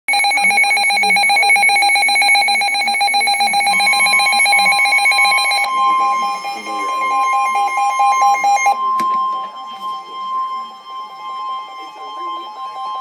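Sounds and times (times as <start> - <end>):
steady higher alert tone: 0.1 - 13.0
rapidly pulsing electronic tone: 0.2 - 13.0.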